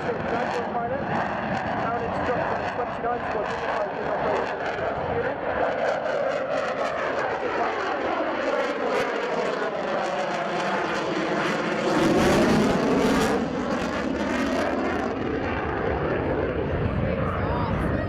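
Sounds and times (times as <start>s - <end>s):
loud jet engine rush: 0.0s - 18.0s.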